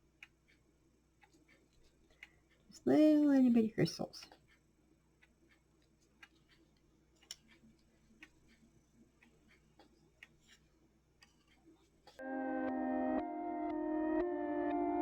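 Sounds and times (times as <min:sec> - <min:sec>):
faint small clicks and ticks: 0:00.0 - 0:12.2.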